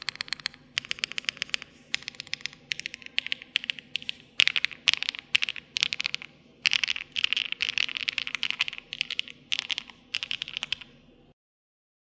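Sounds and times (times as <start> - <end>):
mechanical keyboard typing: 0.0 - 10.9.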